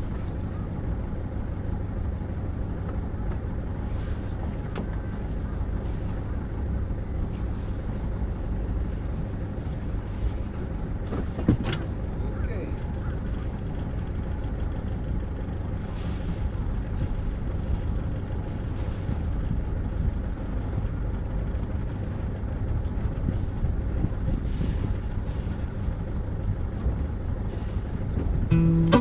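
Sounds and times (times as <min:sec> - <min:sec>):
boat engine low rumble: 0:00.0 - 0:29.0.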